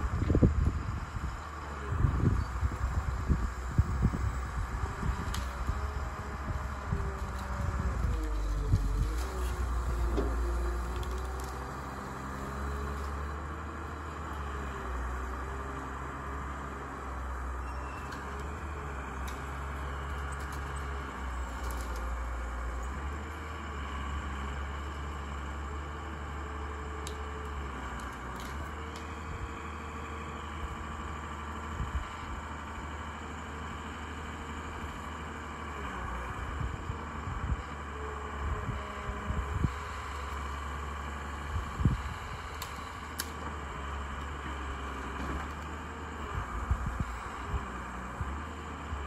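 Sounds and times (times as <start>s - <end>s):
diesel engine droning: 0.0s - 49.0s.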